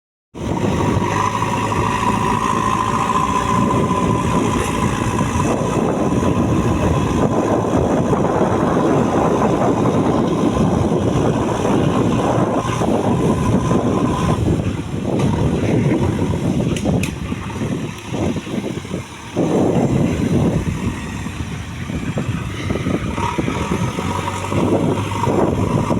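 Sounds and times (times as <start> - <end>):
diesel engine running: 0.4 - 25.9.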